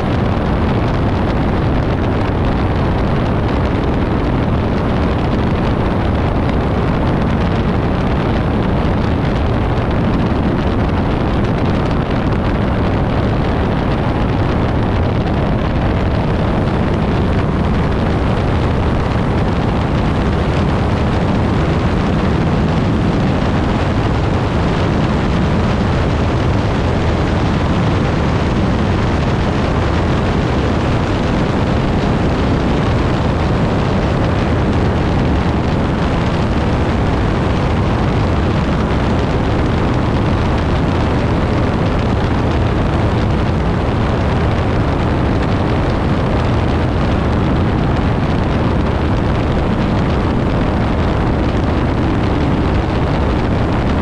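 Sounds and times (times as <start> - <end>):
propeller plane engine: 0.0 - 54.0
wind rushing over airframe: 0.0 - 54.0.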